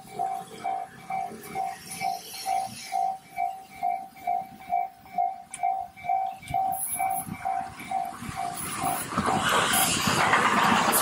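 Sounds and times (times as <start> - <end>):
railway crossing bell ringing: 0.0 - 11.0
train rumble: 0.0 - 11.0.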